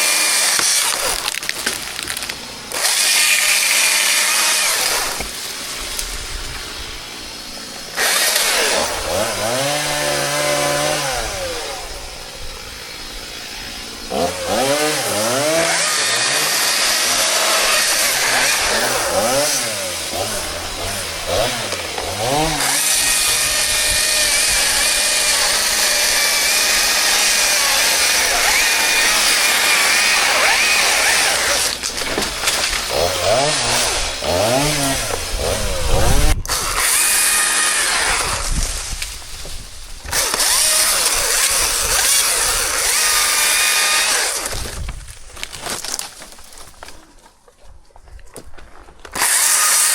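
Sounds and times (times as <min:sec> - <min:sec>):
chainsaw revving and cutting wood: 0:00.0 - 0:45.0, 0:49.1 - 0:49.9.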